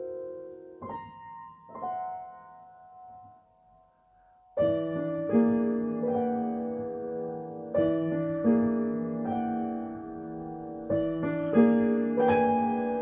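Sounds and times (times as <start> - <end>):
solo piano: 0.0 - 13.0.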